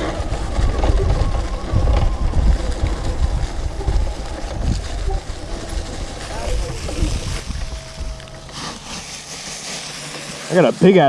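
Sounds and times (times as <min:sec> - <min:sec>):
wind buffeting microphone: 0:00.0 - 0:09.8
dirt bike ride noise: 0:00.0 - 0:11.0.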